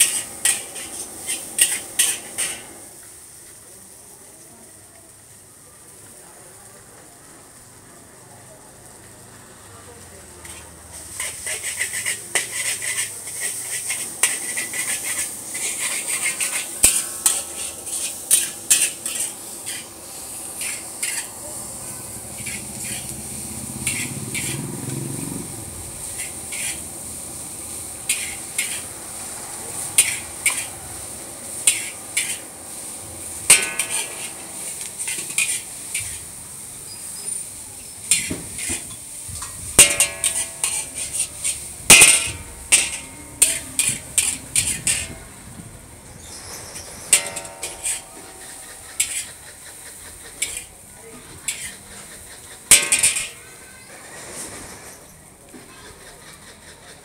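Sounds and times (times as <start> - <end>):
metal spatula scraping a wok: 0.0 - 2.9, 10.4 - 45.5, 46.1 - 57.0
sizzling hiss: 0.0 - 55.4.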